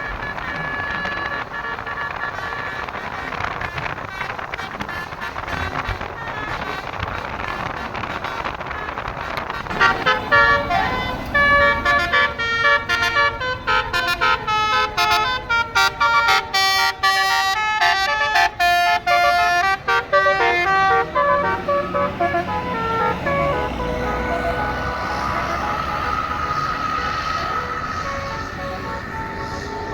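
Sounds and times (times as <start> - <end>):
wind noise: 0.0 - 17.1, 17.8 - 29.9
musical bus horn melody: 0.0 - 29.9
traffic: 0.0 - 29.9.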